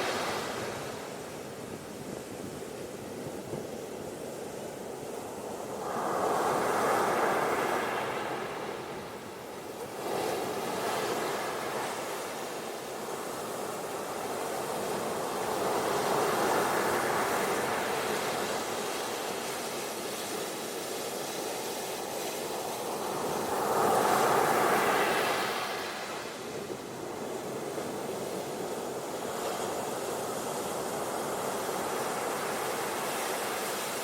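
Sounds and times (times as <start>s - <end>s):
ocean waves washing onto beach: 0.0s - 34.0s.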